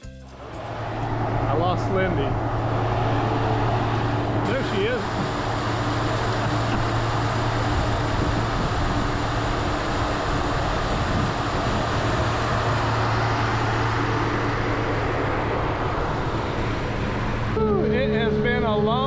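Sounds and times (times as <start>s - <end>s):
ferry engine drone: 0.0s - 19.0s
rushing of hull and wind: 0.6s - 19.0s.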